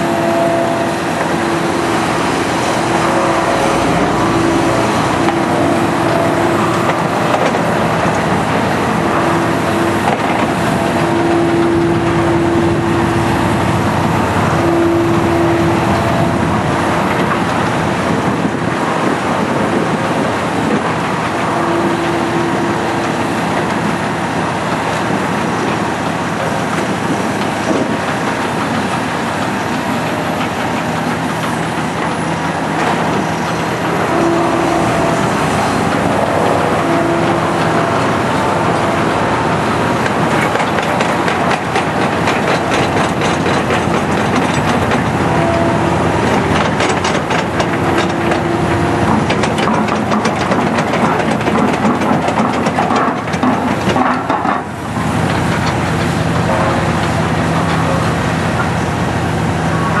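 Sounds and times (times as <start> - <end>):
hydraulic whines: 0.0 - 24.4, 28.8 - 60.0
diesel engine running: 0.0 - 60.0.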